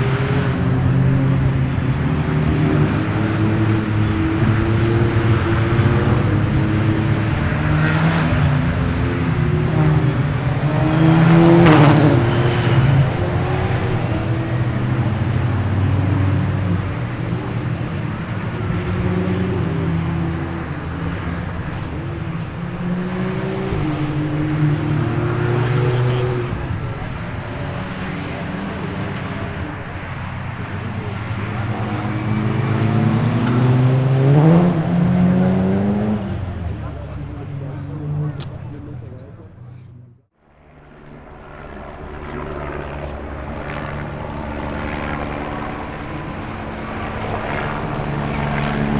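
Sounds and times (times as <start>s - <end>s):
race cars driving past: 0.0s - 48.9s.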